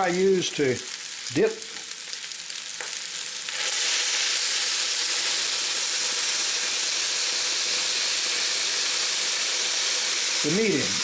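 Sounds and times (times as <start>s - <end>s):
meat and onions sizzling: 0.0s - 11.0s
wine hissing in hot pan: 0.0s - 11.0s.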